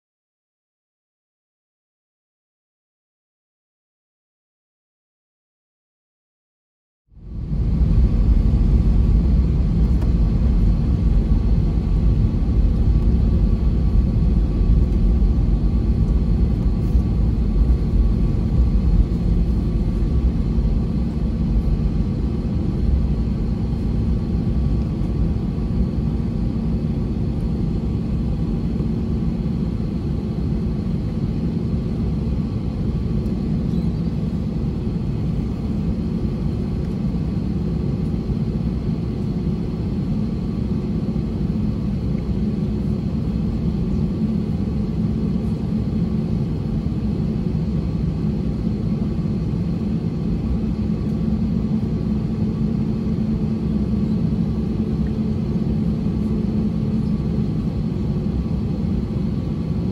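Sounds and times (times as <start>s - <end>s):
aircraft engines low rumble: 7.1s - 59.9s
faint steady whine: 7.1s - 59.9s.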